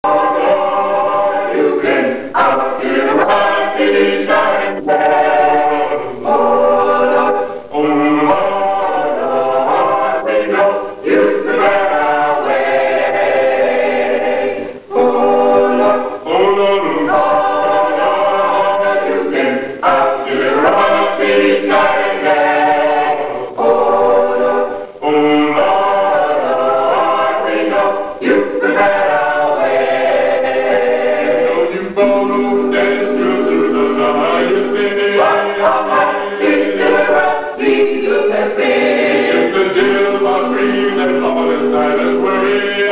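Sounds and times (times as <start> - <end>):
choir singing a cappella: 0.0 - 42.9.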